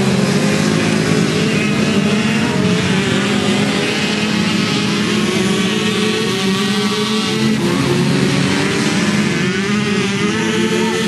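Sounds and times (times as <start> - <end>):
two-stroke motorcycle engines racing: 0.0 - 11.0.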